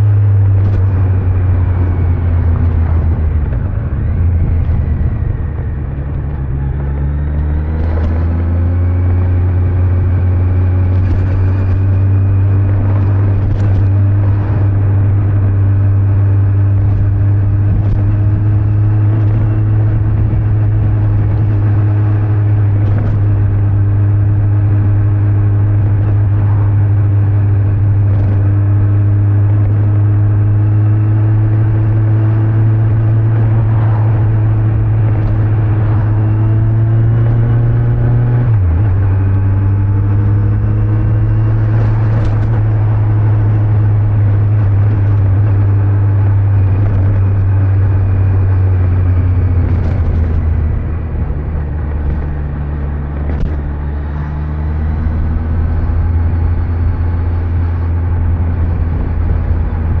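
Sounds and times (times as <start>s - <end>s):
motorcycle engine running: 0.0s - 60.0s
wind and road noise: 0.0s - 60.0s.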